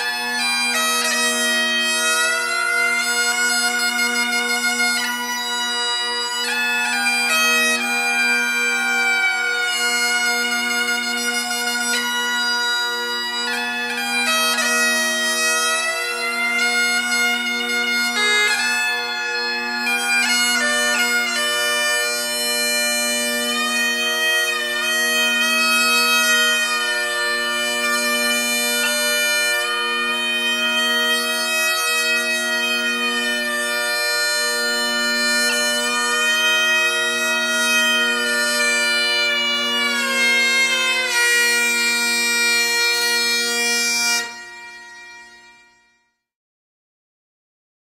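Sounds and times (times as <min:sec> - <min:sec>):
bagpipe chanter melody: 0:00.0 - 0:46.2
bagpipe drones: 0:00.0 - 0:46.2.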